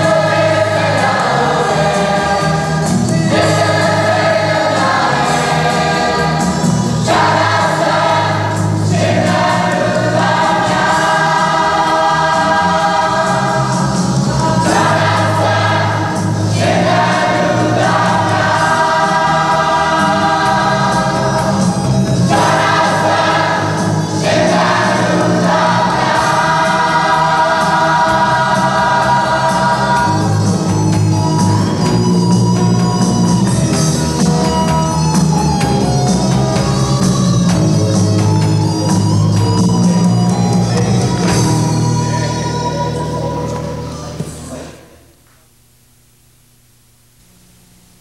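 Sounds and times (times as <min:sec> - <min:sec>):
instrumental accompaniment: 0:00.0 - 0:44.6
choir singing: 0:00.0 - 0:45.0.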